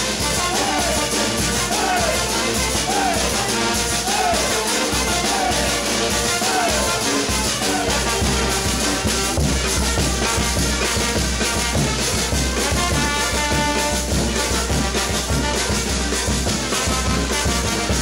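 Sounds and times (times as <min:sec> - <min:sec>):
drums keeping a steady beat: 0:00.0 - 0:18.0
trumpets and trombones: 0:00.0 - 0:18.0.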